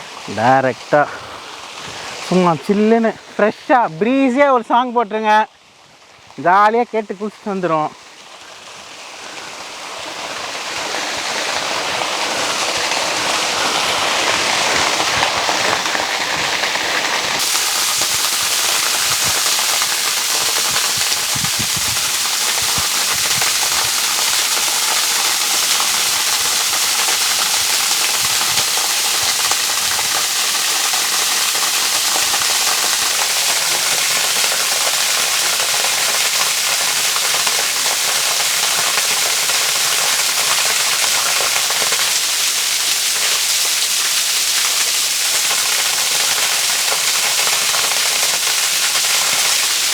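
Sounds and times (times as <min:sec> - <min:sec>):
waterfall rushing: 0:00.0 - 0:05.5, 0:06.4 - 0:49.9.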